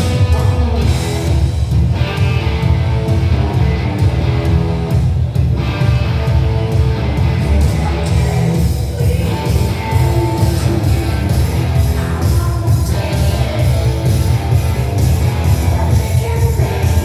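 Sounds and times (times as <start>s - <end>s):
booming bass: 0.0s - 17.0s
hard rock with electric guitar: 0.0s - 17.0s.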